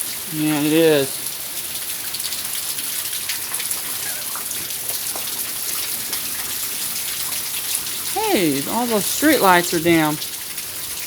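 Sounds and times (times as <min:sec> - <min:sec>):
rain hissing: 0:00.0 - 0:11.0
raindrop ticks: 0:02.1 - 0:11.0.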